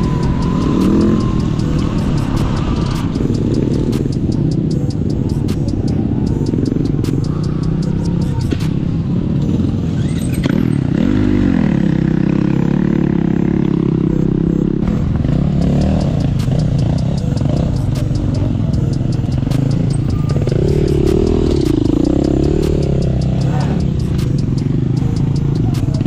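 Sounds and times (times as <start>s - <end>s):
off-road motorcycle engines revving: 0.0s - 26.0s.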